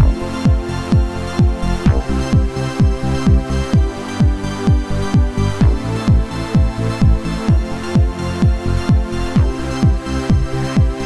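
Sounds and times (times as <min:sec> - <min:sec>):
electronic dance music: 0:00.0 - 0:11.0
kick drum: 0:00.0 - 0:11.0.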